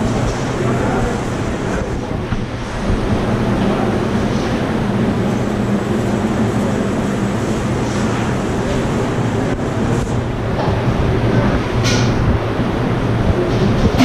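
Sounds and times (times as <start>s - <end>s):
factory machinery droning: 0.0s - 14.0s.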